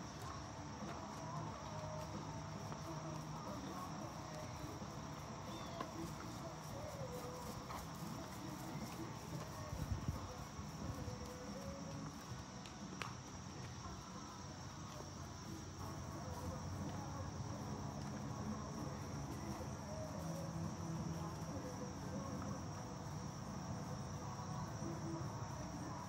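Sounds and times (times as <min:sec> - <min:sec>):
crickets and insects chirping: 0:00.0 - 0:26.0.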